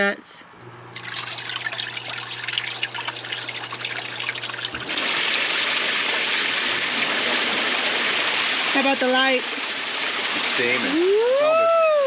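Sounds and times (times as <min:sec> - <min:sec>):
low pump hum: 0:00.5 - 0:12.0
water trickling and churning: 0:00.9 - 0:11.2
rush of water jets: 0:01.0 - 0:12.0.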